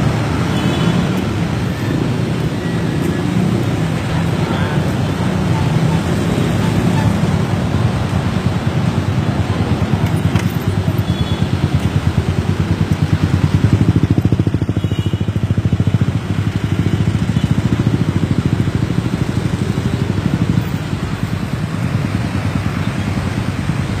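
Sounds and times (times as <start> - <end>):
vehicle engine throbbing: 0.0 - 24.0.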